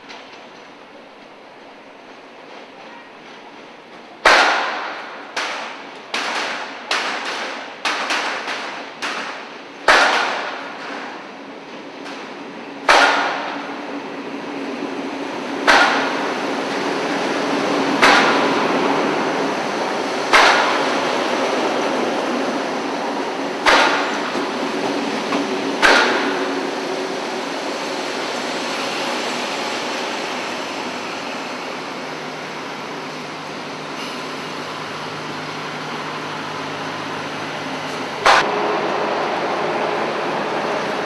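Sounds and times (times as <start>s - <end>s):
diesel train engine running: 0.0s - 41.0s
train wheels clanking on track: 0.0s - 41.0s.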